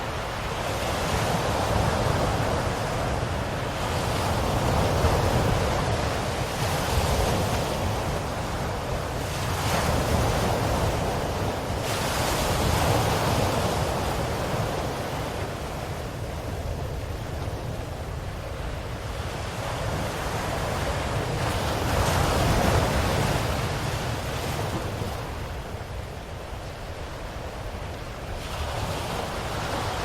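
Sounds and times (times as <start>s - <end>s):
ocean waves washing ashore: 0.0s - 30.0s.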